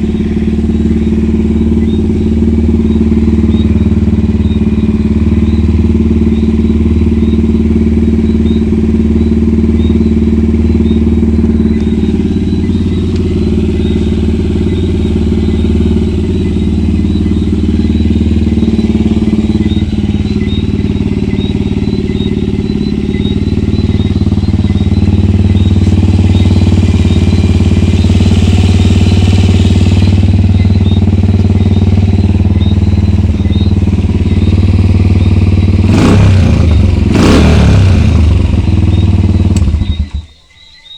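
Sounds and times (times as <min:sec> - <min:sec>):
motorcycle engine running at low revs: 0:00.0 - 0:40.5.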